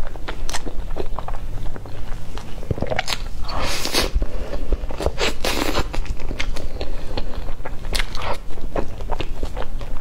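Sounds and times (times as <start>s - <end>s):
wet chewing: 0.0s - 10.0s
lip smacks: 0.2s - 4.2s, 4.9s - 10.0s.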